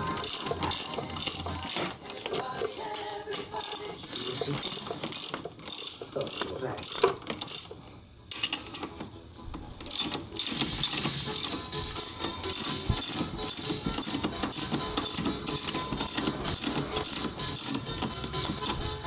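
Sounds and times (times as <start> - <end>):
ratchet wrench clicking: 0.0 - 19.0.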